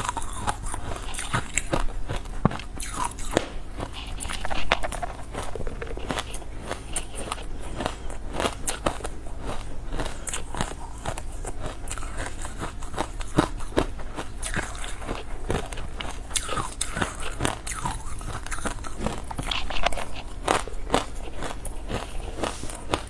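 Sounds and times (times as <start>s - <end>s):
ice being chewed crunching: 0.0s - 23.0s.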